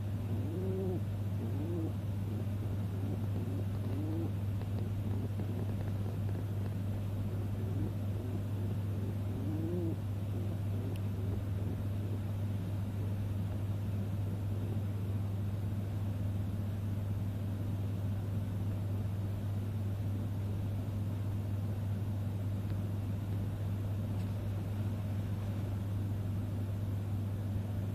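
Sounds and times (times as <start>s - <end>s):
low machine hum: 0.0s - 27.9s.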